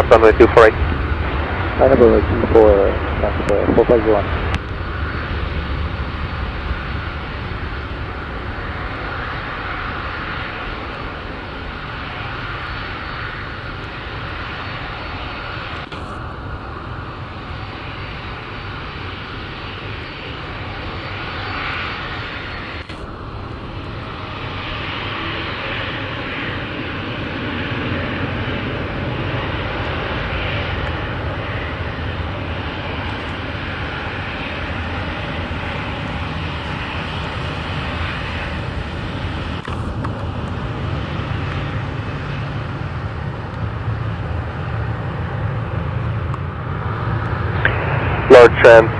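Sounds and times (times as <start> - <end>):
jet engines whine and rumble: 0.0 - 48.9.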